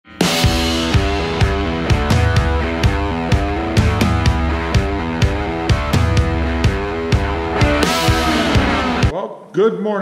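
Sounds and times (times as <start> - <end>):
electric guitar notes: 0.1 - 9.1
drum beat: 0.2 - 9.1.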